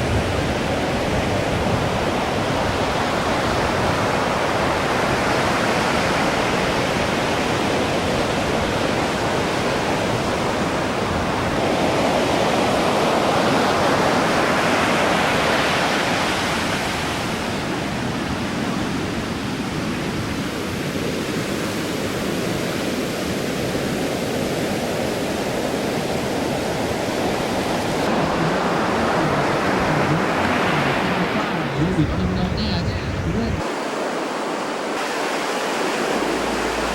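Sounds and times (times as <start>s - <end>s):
waves breaking: 0.0s - 36.9s.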